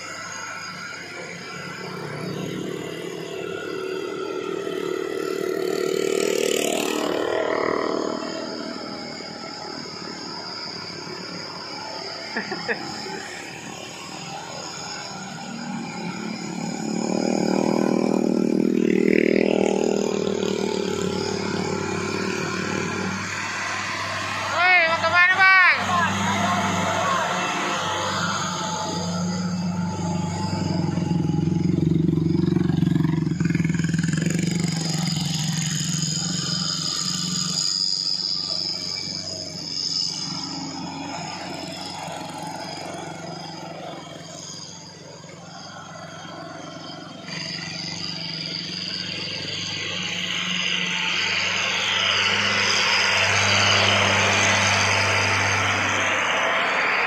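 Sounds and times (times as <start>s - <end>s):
diesel truck engines labouring uphill: 0.0s - 57.0s.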